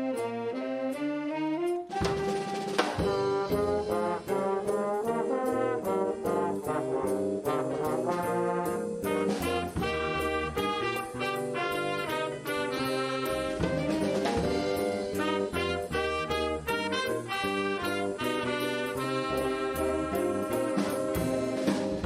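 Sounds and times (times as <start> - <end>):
jazz band with saxophones and brass: 0.0 - 22.0
steady drum beat: 1.8 - 22.0.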